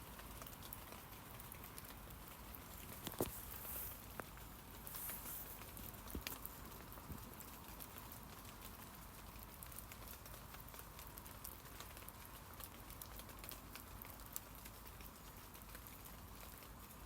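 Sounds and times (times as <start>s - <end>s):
rain hissing on leaves: 0.0s - 17.0s
raindrops ticking on leaves: 0.0s - 17.0s.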